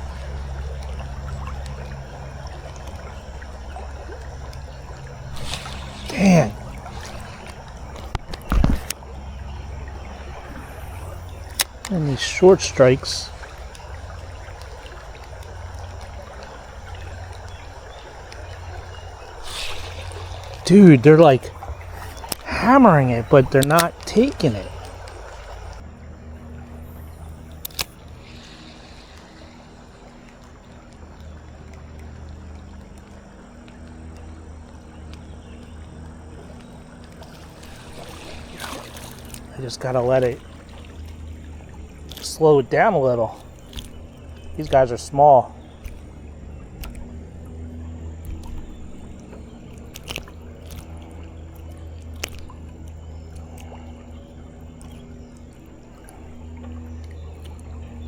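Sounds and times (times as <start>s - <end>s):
low rumble of water and wind: 0.0s - 58.0s.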